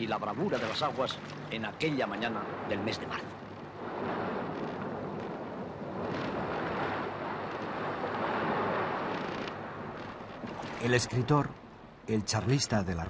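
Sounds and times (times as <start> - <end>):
sea water splashing around boat: 0.0 - 11.4.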